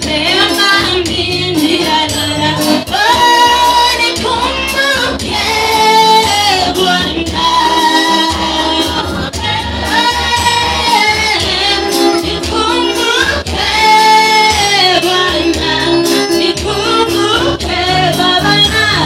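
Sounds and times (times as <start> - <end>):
band accompaniment with bass: 0.0 - 19.0
group of singers: 0.0 - 19.0.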